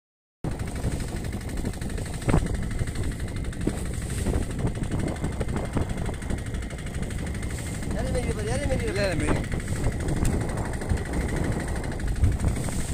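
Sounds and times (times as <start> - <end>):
wind: 0.4 - 12.9
boat engine idling: 0.5 - 12.9
water noise: 0.5 - 12.9.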